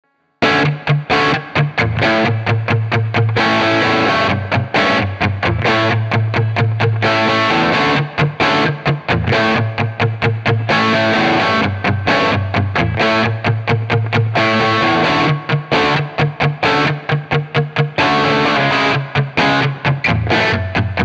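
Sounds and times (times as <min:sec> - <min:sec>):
distorted electric guitar chords: 0:00.4 - 0:21.0.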